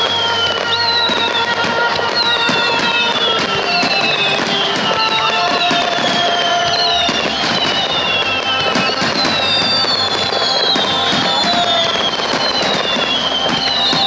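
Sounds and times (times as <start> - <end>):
falling whistles of fireworks: 0.0 - 14.0
fireworks bangs and crackling: 0.0 - 14.0
music playing: 0.0 - 14.0.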